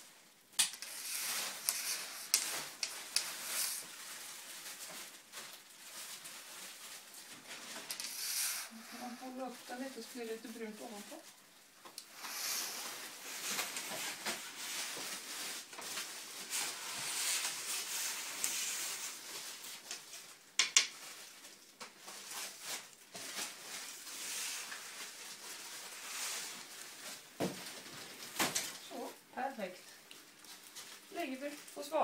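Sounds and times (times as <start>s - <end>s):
wood fire crackling and hissing: 0.0s - 32.0s.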